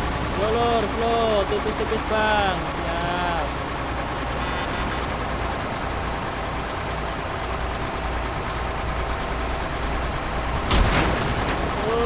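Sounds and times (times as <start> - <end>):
road noise: 0.0 - 12.0
truck diesel engine running: 0.0 - 12.0.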